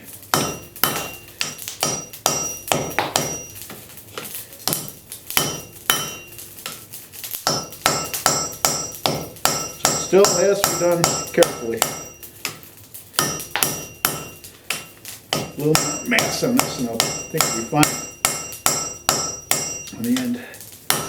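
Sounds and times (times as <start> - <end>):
hammer striking metal on anvil: 0.3 - 3.7, 4.6 - 6.8, 7.4 - 12.6, 13.2 - 20.3.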